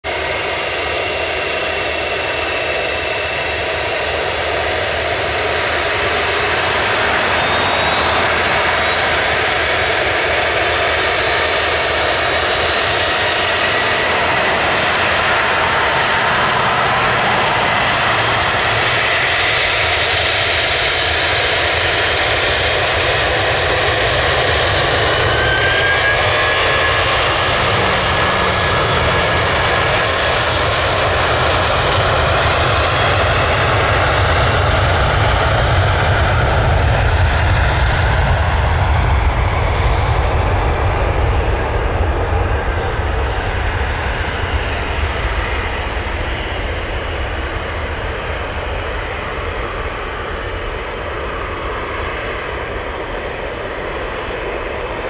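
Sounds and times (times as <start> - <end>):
jet engines whining and rumbling: 0.0 - 55.0.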